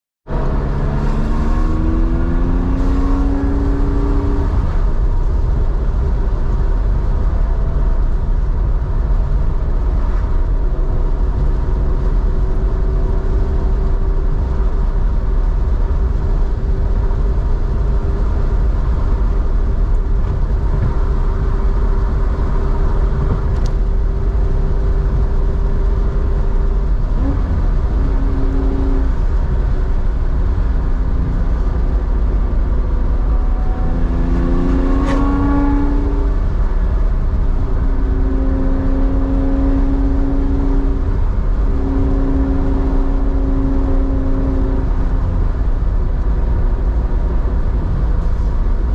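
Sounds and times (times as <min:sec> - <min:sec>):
car engine accelerating and droning: 0:00.2 - 0:48.9.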